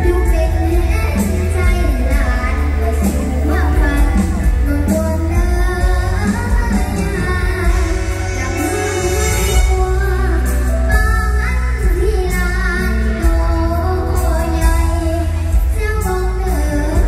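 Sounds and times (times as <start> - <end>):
band with heavy bass: 0.0 - 17.0
woman singing amplified: 0.0 - 17.0.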